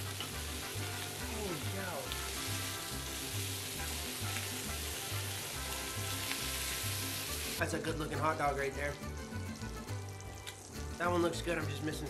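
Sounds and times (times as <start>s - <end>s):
food sizzling on a flat top: 0.0s - 11.5s
vegetables frying in a skillet: 0.0s - 11.5s.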